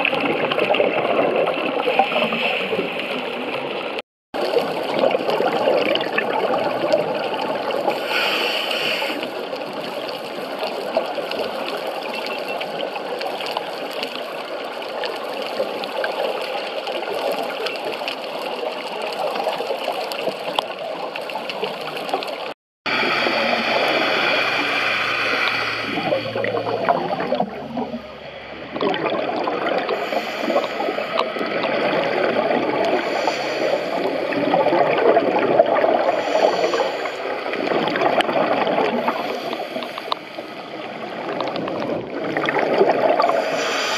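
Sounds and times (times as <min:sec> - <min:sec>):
bubbling and gurgling: 0:00.0 - 0:43.9
muffled underwater rush: 0:00.0 - 0:43.9.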